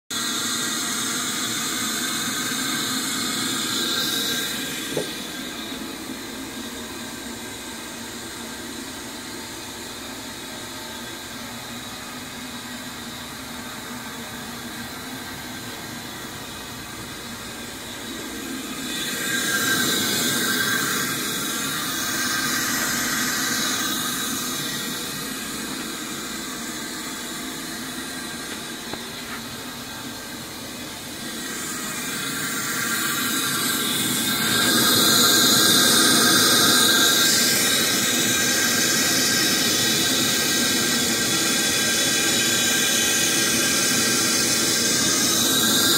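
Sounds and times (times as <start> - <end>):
cut-off saw whirring: 0.1 - 45.9.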